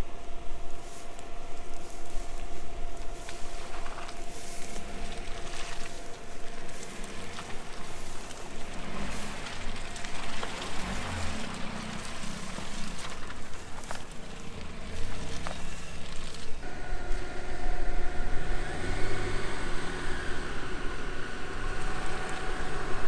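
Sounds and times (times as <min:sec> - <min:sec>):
engine running under load: 0:00.0 - 0:23.0
tyres splashing through mud: 0:00.6 - 0:16.7, 0:18.6 - 0:23.0.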